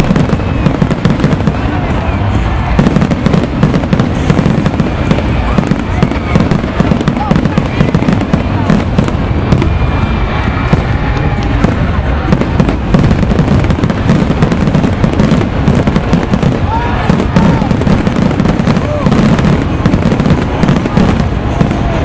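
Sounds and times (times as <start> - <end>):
crowd voices: 0.0 - 22.0
fireworks booming and crackling: 0.0 - 22.0.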